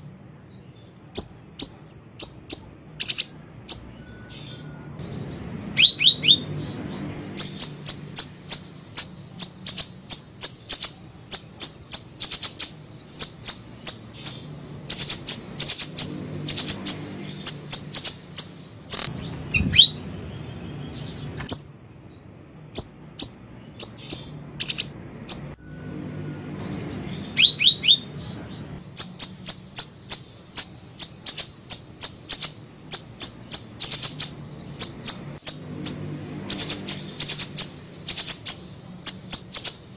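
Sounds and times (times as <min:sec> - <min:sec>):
small bird high thin chirps: 0:00.0 - 0:26.4, 0:27.0 - 0:39.9.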